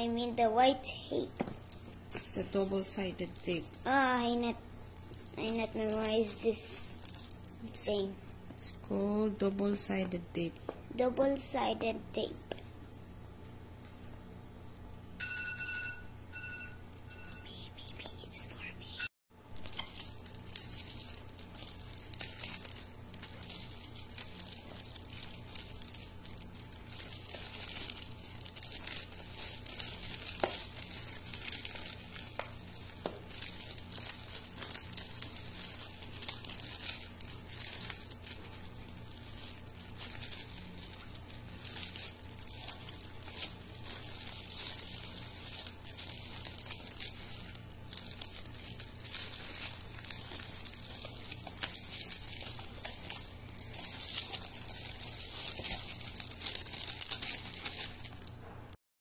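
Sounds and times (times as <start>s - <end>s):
plastic gift wrap crinkling: 0.0s - 15.0s, 16.5s - 58.5s.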